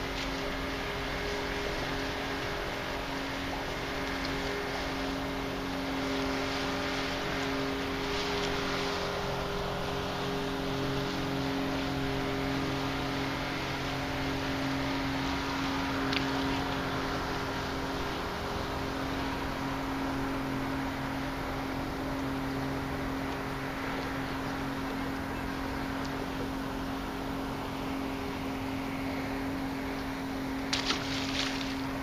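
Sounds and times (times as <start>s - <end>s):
outboard engine humming: 0.0s - 32.0s.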